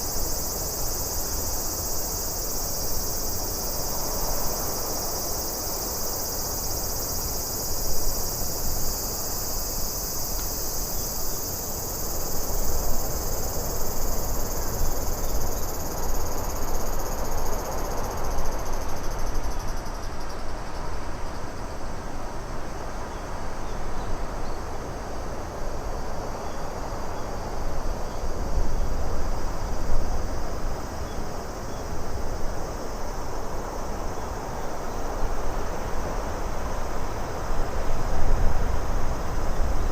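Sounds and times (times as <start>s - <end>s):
high cricket chirring: 0.0s - 39.9s.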